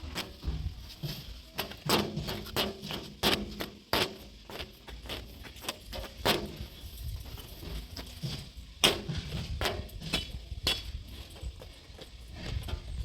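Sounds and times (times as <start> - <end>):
backhoe knocks and clanks: 0.0 - 11.4.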